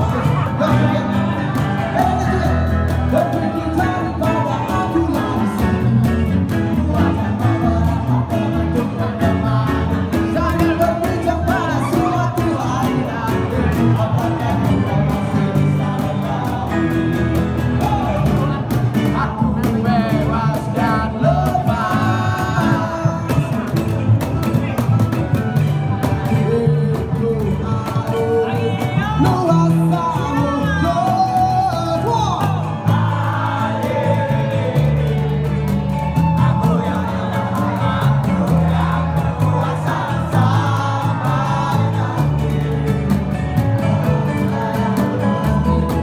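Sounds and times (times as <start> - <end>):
drums: 0.0 - 46.0
guitar: 0.0 - 46.0
man singing into a microphone: 0.0 - 46.0.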